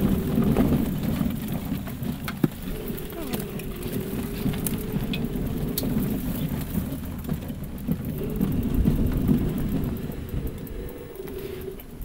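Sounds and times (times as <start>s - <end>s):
wavering whine: 0.0s - 12.0s
wheels rumbling on rails: 0.0s - 12.0s.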